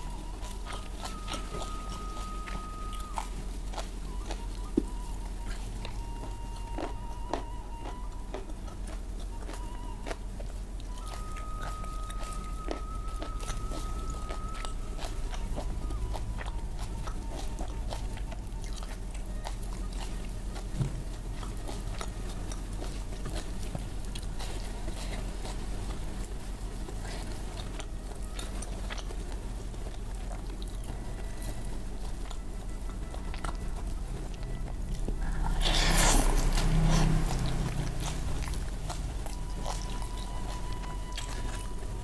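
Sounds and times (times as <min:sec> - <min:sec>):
person chewing with clicks: 0:00.0 - 0:42.0.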